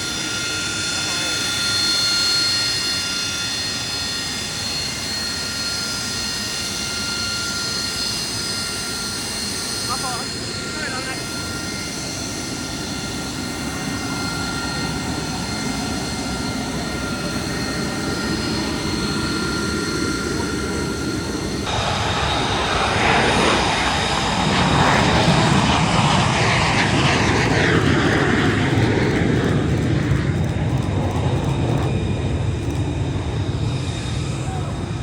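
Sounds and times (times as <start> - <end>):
aircraft engine whine: 0.0 - 35.0
rough aircraft engine: 0.0 - 35.0.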